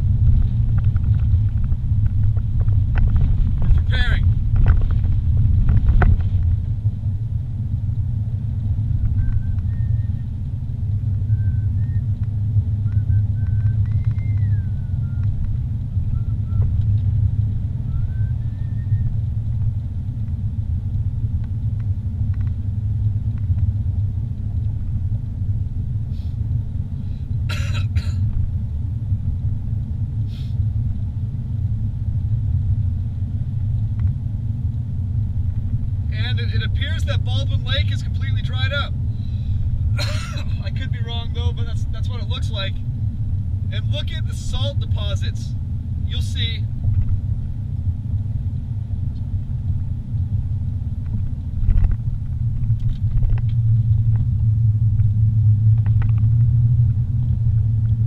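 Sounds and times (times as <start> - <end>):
vehicle rumble from inside cabin: 0.0 - 58.0.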